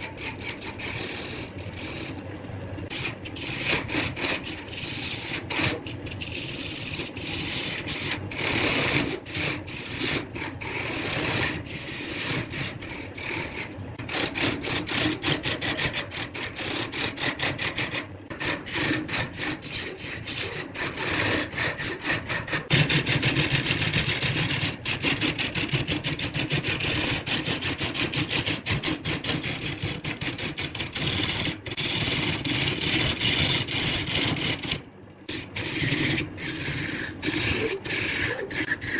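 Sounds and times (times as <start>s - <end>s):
tool scraping spinning wood: 0.0s - 38.9s.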